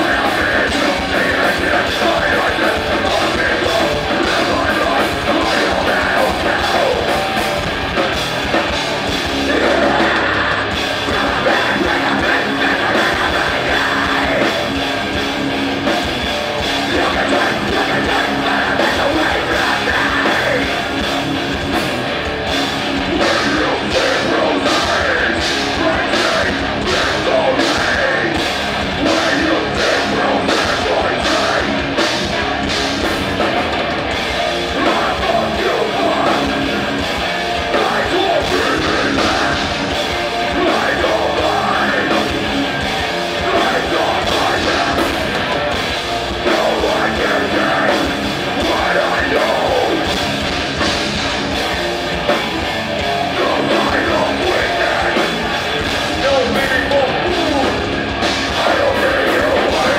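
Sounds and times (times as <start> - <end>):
drums beating: 0.0 - 59.9
punk band playing: 0.0 - 59.9
vocals: 0.0 - 59.9.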